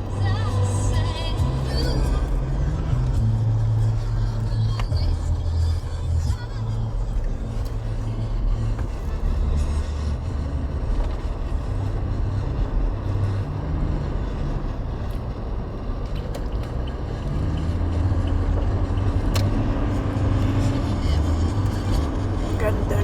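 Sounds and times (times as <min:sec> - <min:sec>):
road noise: 0:00.0 - 0:23.0
vehicle engine: 0:00.0 - 0:23.0.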